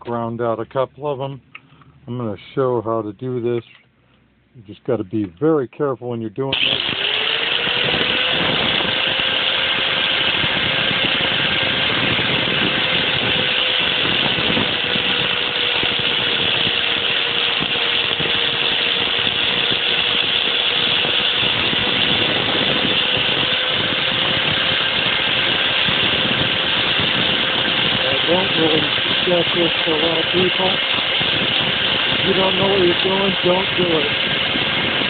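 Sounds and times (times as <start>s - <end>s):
angle grinder cutting metal: 6.5s - 35.0s.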